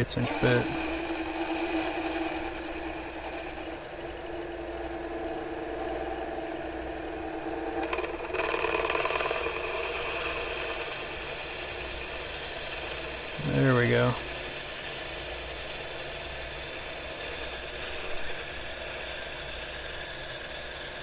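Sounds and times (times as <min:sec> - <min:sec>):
drill cutting into workpiece: 0:00.0 - 0:04.4, 0:07.8 - 0:21.0
lathe motor whine: 0:00.0 - 0:21.0.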